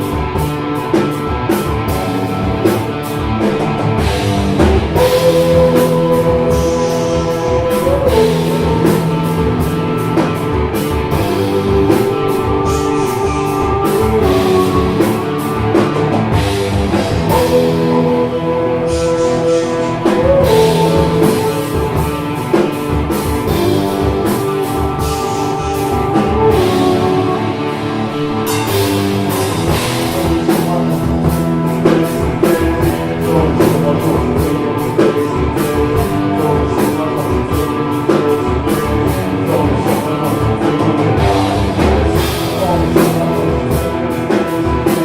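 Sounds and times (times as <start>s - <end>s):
rock band playing: 0.0s - 45.0s.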